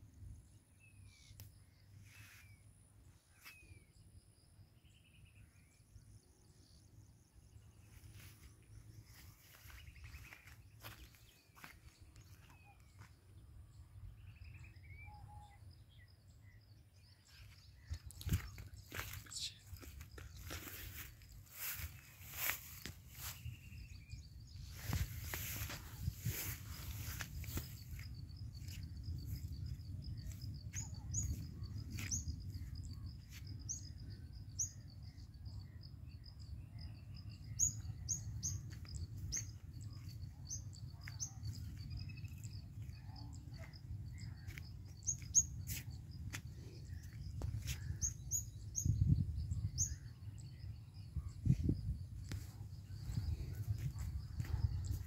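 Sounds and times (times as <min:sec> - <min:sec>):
birds chirping: 0:00.8 - 0:55.0.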